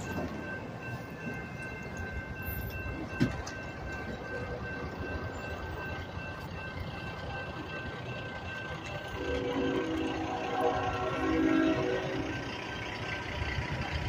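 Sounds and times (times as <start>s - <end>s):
railroad crossing bells ringing: 0.0s - 14.0s.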